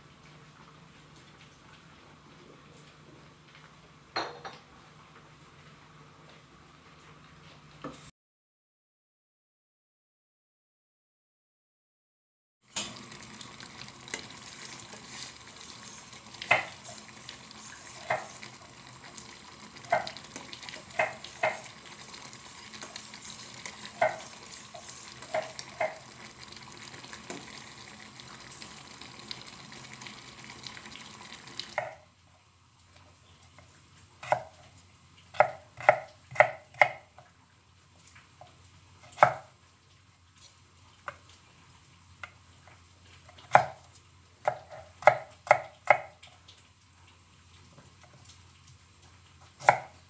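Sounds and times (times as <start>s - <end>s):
liquid boiling in a saucepan: 0.0s - 8.1s, 12.6s - 50.0s.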